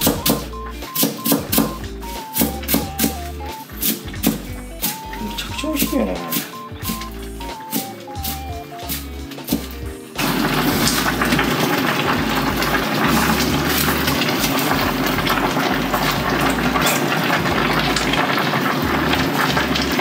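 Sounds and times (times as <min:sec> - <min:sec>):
running water: 0:01.6 - 0:20.0.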